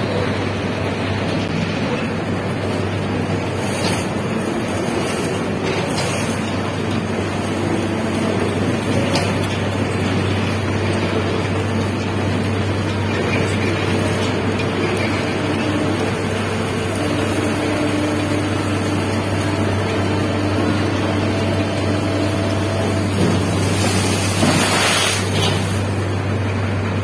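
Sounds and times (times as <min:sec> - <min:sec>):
crane machinery drone: 0:00.0 - 0:27.0
high motor whine: 0:00.0 - 0:27.0.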